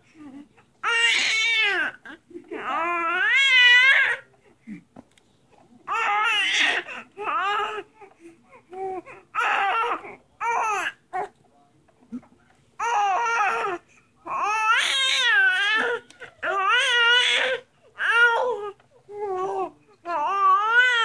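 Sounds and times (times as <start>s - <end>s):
infant cooing and babbling: 0.1s - 4.8s, 5.8s - 11.4s, 12.8s - 21.0s.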